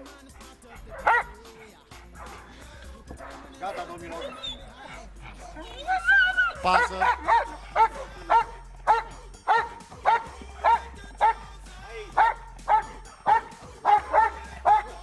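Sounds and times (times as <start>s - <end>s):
dog barking: 0.1s - 11.5s, 12.1s - 15.0s.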